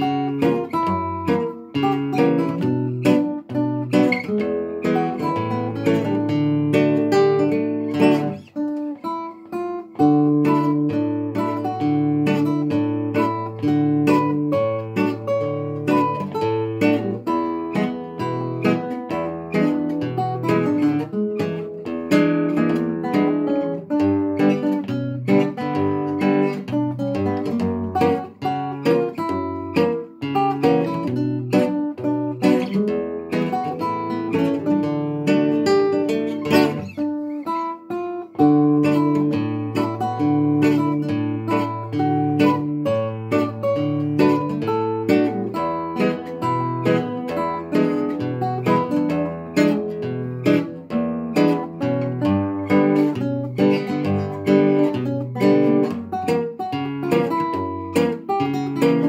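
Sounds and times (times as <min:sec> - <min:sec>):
classical guitars playing duet: 0:00.0 - 0:59.0.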